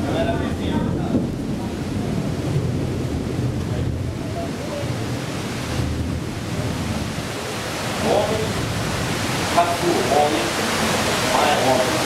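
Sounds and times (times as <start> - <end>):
heavy rain hiss: 0.0 - 12.0
surf: 0.0 - 12.0
wind gusting against microphone: 0.0 - 12.0.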